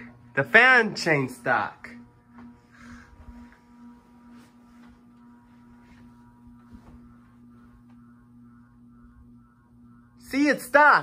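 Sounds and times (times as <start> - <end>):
ceiling fan electrical hum: 0.0 - 11.0.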